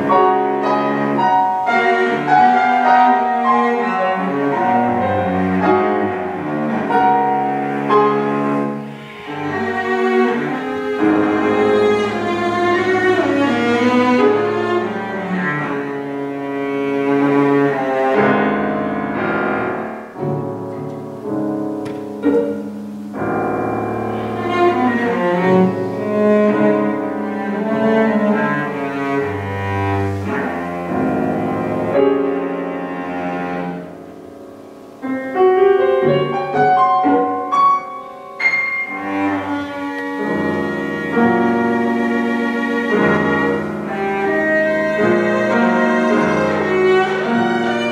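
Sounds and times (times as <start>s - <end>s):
bowed cello: 0.0s - 47.9s
piano accompaniment: 0.0s - 47.9s.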